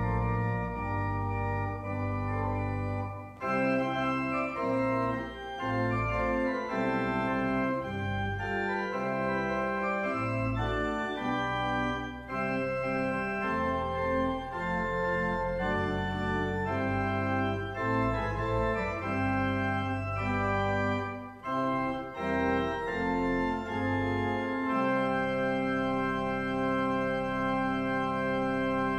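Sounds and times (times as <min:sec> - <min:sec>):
organ playing chords: 0:00.0 - 0:28.9.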